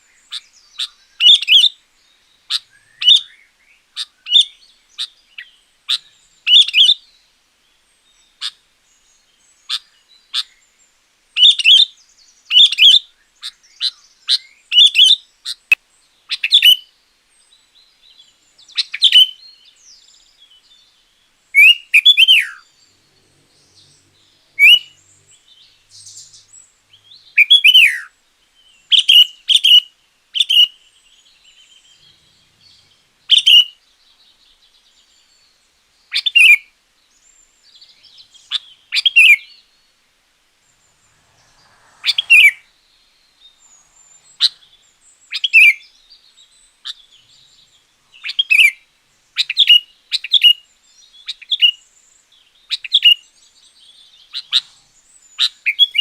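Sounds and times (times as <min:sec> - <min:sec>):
bulbul singing: 0:00.0 - 0:07.2, 0:17.8 - 0:56.0.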